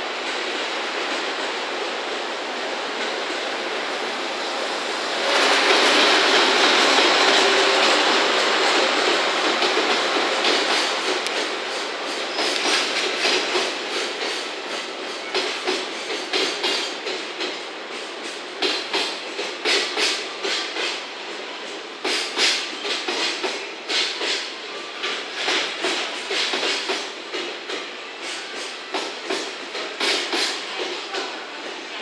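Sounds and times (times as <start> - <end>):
electric locomotive passing: 0.0 - 32.0.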